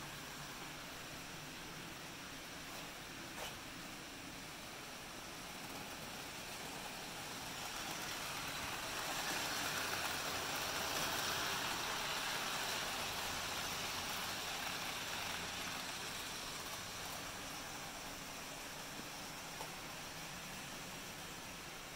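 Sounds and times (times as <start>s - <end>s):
model train rolling on track: 0.0s - 21.9s.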